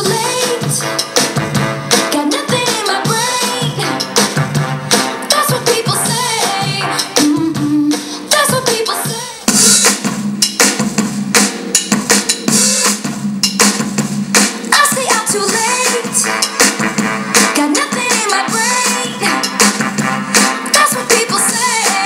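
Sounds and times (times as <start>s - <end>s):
pop song through speaker: 0.0s - 10.8s, 14.4s - 22.0s.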